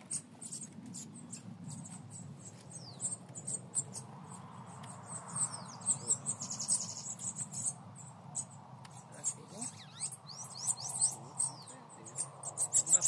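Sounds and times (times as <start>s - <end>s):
songbirds chirping: 0.0s - 13.0s
fast high bird trill: 0.1s - 13.0s.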